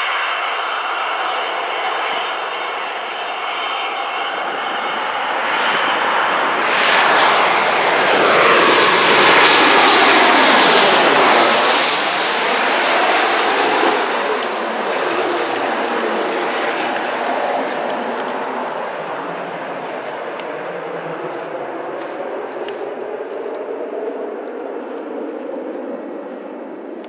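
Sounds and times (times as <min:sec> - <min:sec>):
jet airliner passing overhead: 0:00.0 - 0:27.0
jet engine whine: 0:00.0 - 0:27.0.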